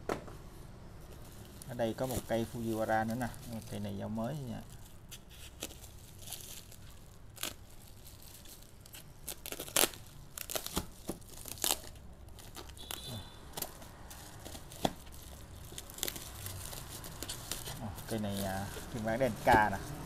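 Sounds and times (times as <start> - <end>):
bubble wrap crinkling and snapping: 1.1 - 20.0.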